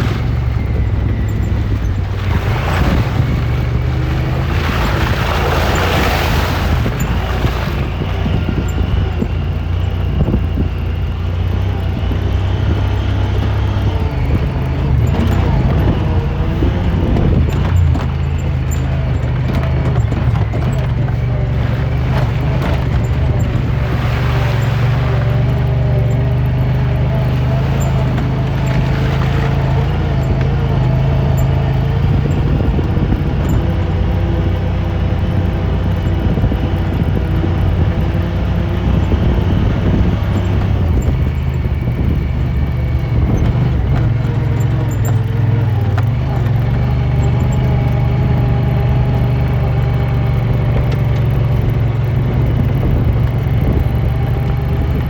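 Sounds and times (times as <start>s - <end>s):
utility vehicle engine droning: 0.0s - 55.0s.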